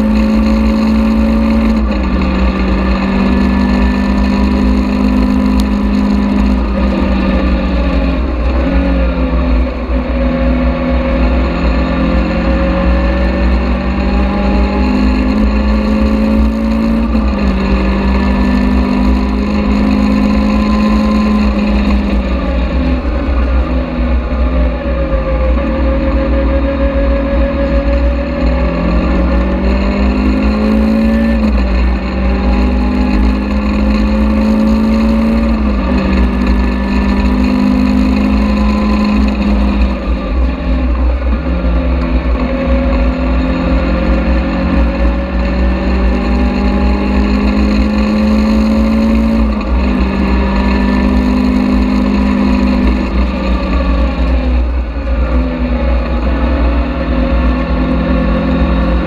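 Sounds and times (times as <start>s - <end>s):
car engine accelerating: 0.0s - 59.0s
wind and road rumble: 0.0s - 59.0s.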